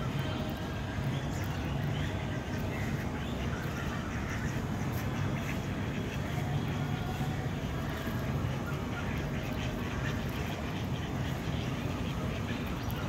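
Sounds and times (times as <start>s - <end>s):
distant traffic rumble: 0.0s - 13.0s
faint bird calls: 0.0s - 13.0s.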